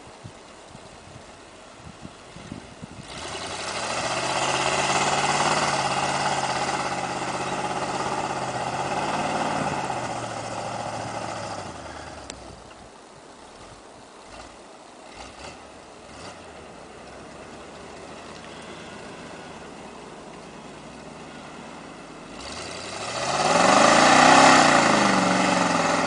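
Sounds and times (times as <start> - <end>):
pickup truck engine revving: 3.0 - 12.7, 14.2 - 26.0.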